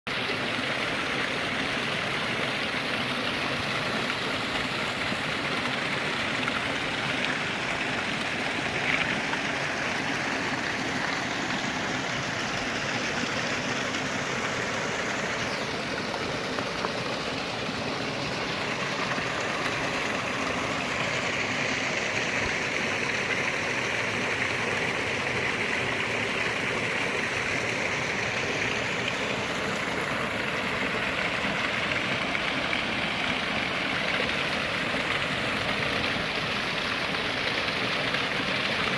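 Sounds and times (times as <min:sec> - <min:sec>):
waterfall pouring and splashing: 0:00.1 - 0:38.9.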